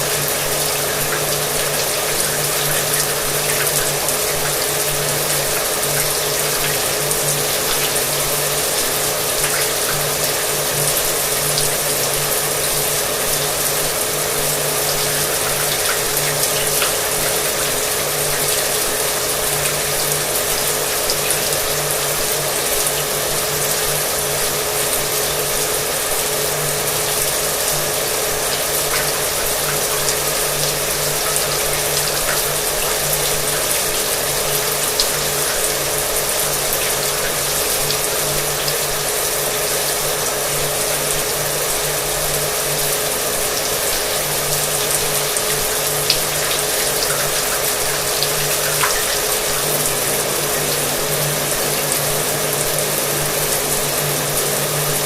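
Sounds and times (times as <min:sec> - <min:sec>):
shower water spraying: 0:00.0 - 0:55.0.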